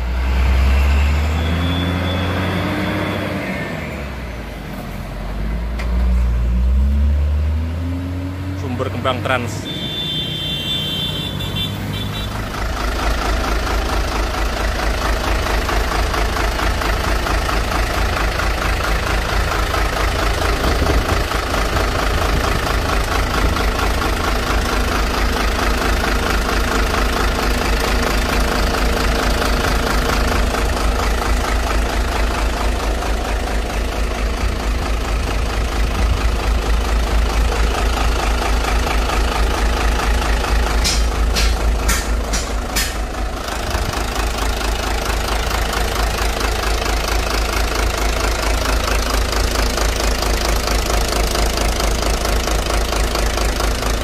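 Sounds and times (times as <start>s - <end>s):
diesel engine idling: 0.0s - 54.0s
roadside traffic: 0.0s - 54.0s.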